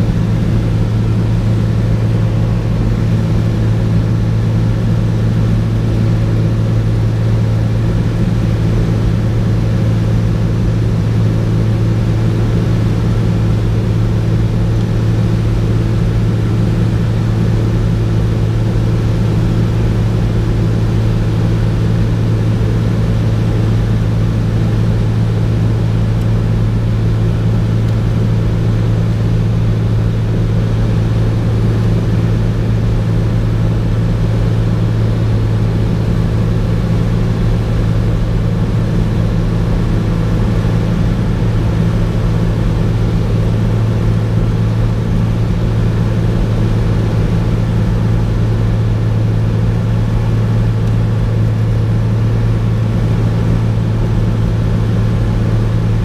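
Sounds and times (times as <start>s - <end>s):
airplane engine droning: 0.0s - 56.0s.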